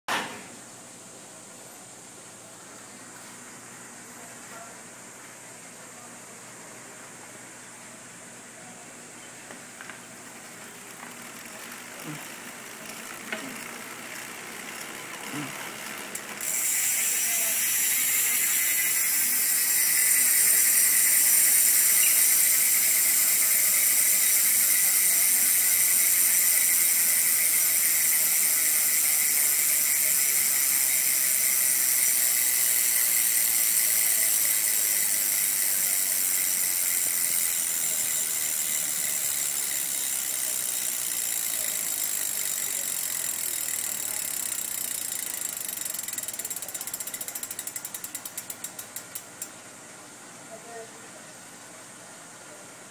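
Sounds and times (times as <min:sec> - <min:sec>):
bicycle freehub buzzing: 0:02.8 - 0:49.6.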